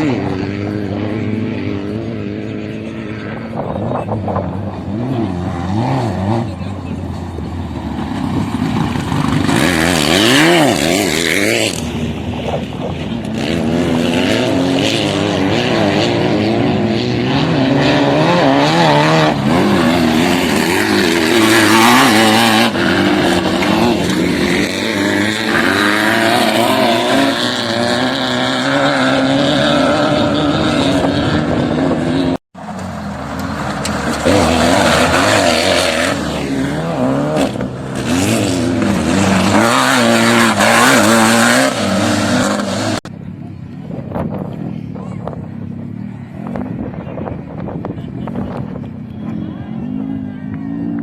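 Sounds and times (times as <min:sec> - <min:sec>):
motorcycle engine revving: 0:00.0 - 0:43.2.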